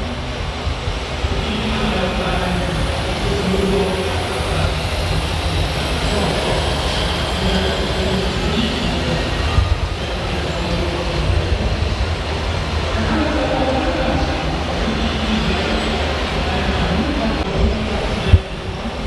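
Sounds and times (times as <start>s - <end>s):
constant low hum: 0.0s - 19.0s
indistinct crowd voices: 0.0s - 19.0s.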